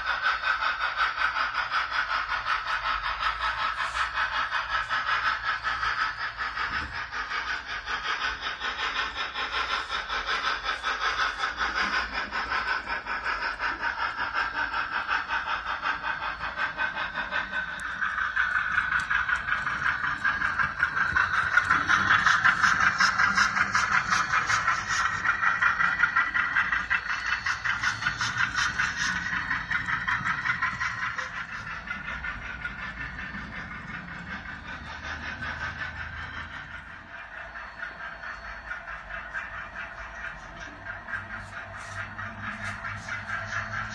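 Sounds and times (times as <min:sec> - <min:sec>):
model steam locomotive chuffing: 0:00.0 - 0:43.9.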